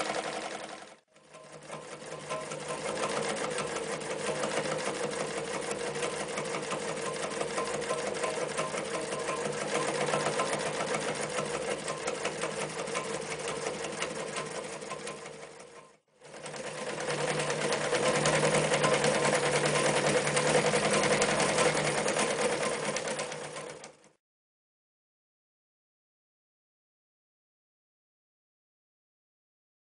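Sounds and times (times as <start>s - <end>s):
sewing machine running: 0.0s - 24.2s.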